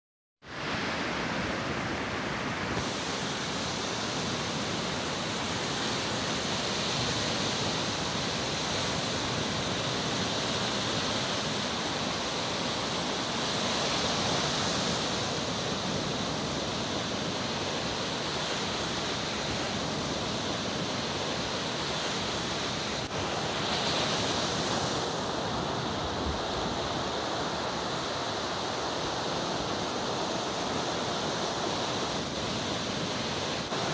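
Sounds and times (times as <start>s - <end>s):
surf washing onto shore: 0.5s - 33.9s.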